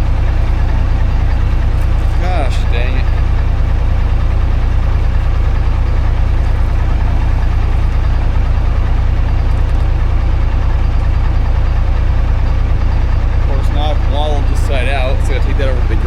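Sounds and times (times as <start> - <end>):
machine deep pulsing rumble: 0.0 - 16.0.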